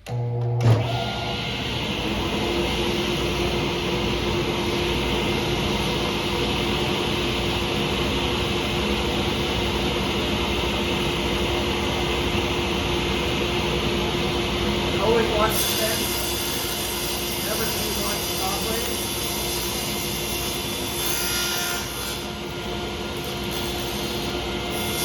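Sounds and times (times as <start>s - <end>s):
table saw running: 0.0s - 25.0s.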